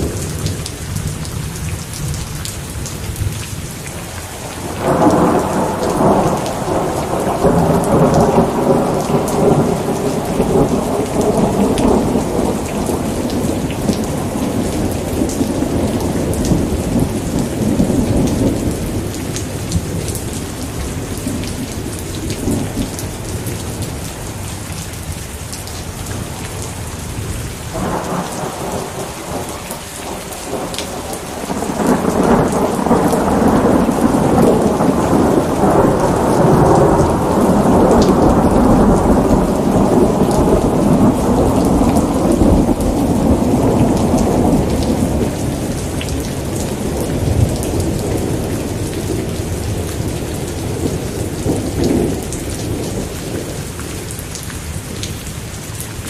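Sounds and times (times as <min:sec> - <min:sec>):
heavy rain: 0:00.0 - 0:56.0
rolling thunder: 0:04.5 - 0:24.5, 0:26.6 - 0:54.1.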